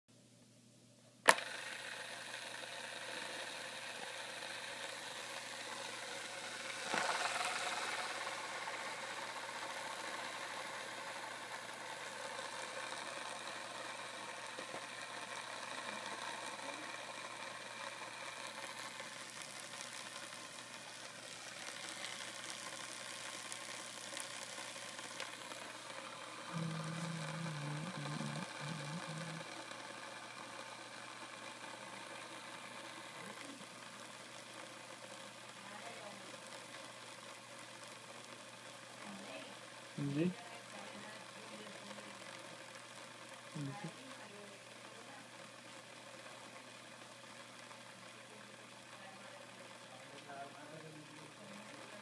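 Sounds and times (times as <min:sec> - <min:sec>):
skateboard wheel whirring on bearings: 0:01.2 - 0:52.0.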